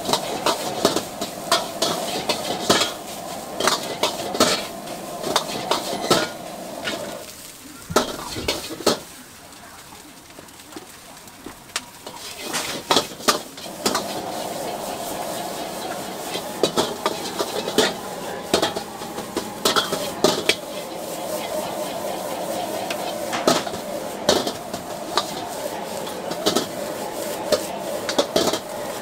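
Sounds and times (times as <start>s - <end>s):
food sizzling: 0.0s - 29.0s.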